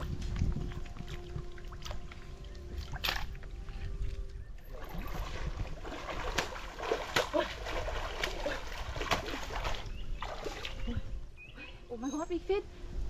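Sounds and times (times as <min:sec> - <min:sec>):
flowing river water: 0:00.0 - 0:11.9.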